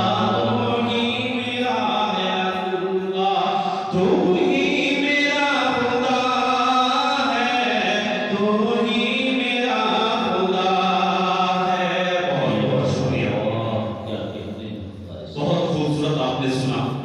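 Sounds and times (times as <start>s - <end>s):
man singing unaccompanied: 0.0s - 14.0s.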